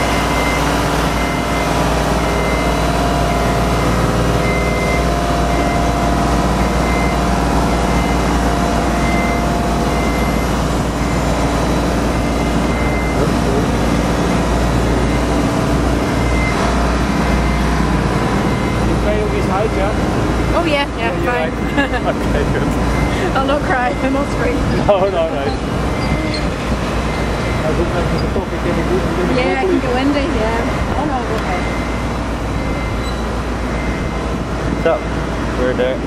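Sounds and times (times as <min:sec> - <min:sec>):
high warning beep: 0:00.0 - 0:35.2
lift motor running: 0:00.0 - 0:35.8.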